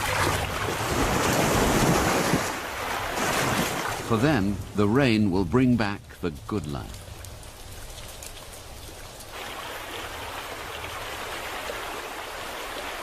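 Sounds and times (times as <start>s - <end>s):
rushing water of stream: 0.0s - 13.0s.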